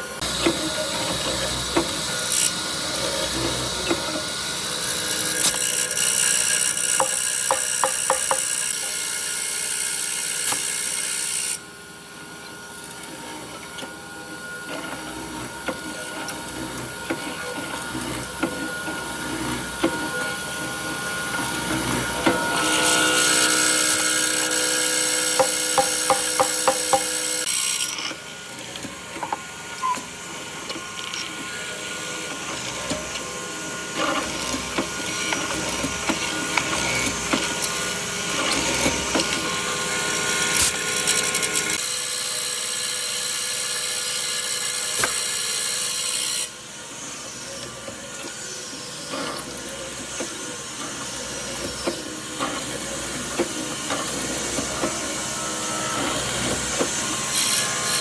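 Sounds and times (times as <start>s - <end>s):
power tool working wood: 0.0s - 58.0s.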